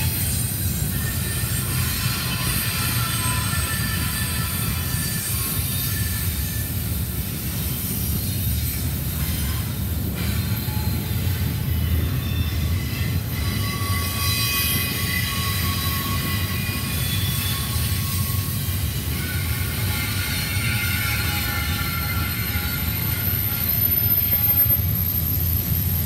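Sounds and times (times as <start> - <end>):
high-pitched wheel squeals: 0.0 - 7.0, 7.9 - 26.0
freight train wheels rumbling on rail: 0.0 - 26.0.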